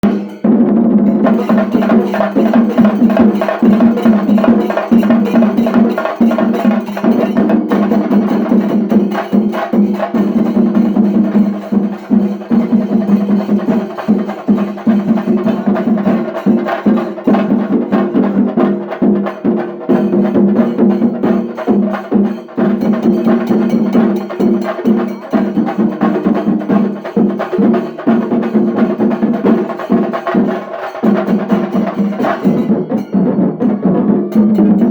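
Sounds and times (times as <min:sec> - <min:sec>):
cymbals: 0:00.0 - 0:34.9
drums playing loud fast strokes: 0:00.0 - 0:34.9.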